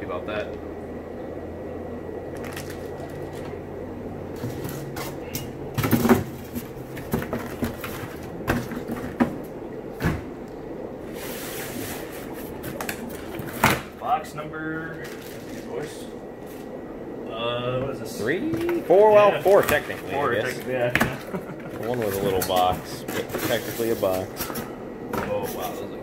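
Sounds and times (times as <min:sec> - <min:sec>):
low hum: 0:00.0 - 0:23.4.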